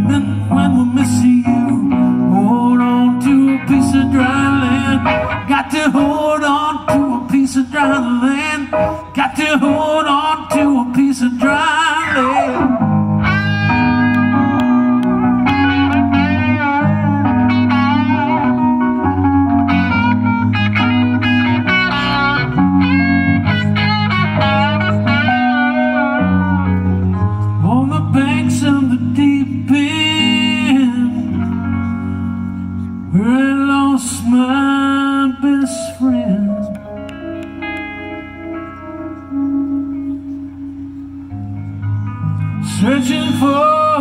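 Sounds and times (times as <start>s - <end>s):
electric guitar lead lines: 0.0s - 44.0s
sustained keyboard chords: 0.0s - 44.0s.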